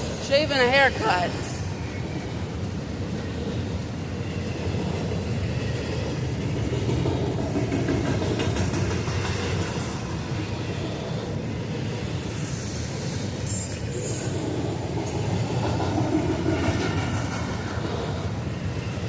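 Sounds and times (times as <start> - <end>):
freight train rolling past: 0.0 - 19.0
second freight train passing: 0.0 - 19.0.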